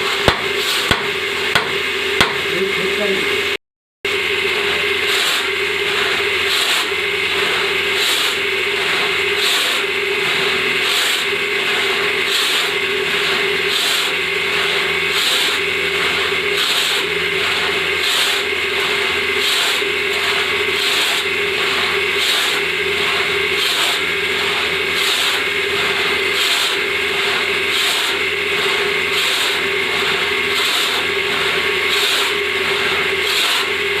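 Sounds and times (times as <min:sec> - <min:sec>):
hand saw cutting wood: 0:00.0 - 0:03.2, 0:04.6 - 0:34.0
steady hum: 0:00.0 - 0:34.0.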